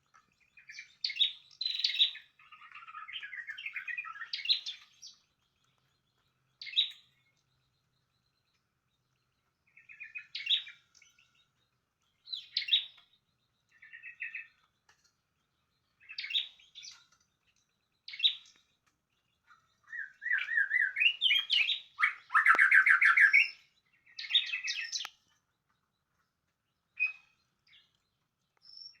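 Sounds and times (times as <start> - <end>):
songbird chirping and trilling: 0.0 - 29.0.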